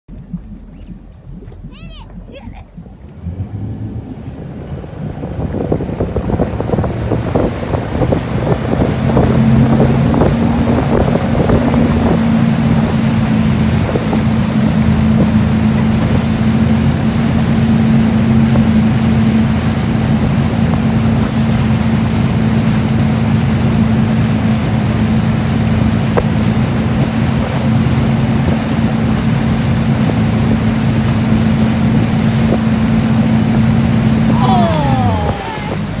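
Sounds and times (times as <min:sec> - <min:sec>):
boat engine running: 0:00.1 - 0:36.0
churning wake water: 0:00.1 - 0:36.0
wind: 0:00.1 - 0:36.0.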